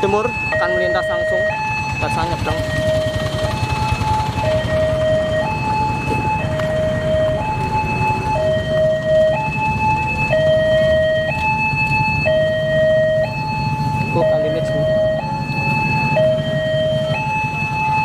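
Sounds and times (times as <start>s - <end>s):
road traffic rumble: 0.0s - 18.0s
two-tone crossing alarm: 0.0s - 18.0s.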